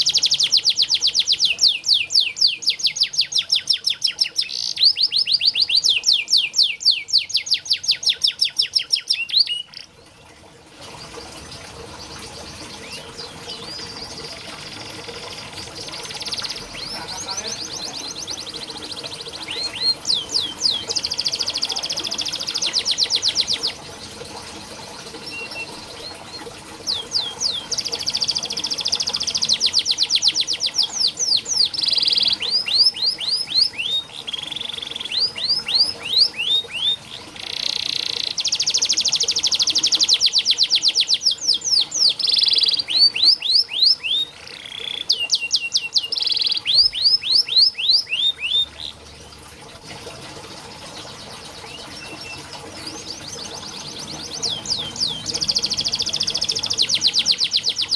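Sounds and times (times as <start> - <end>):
canary singing: 0.0 - 10.0, 11.9 - 24.2, 24.8 - 49.0, 51.2 - 57.9.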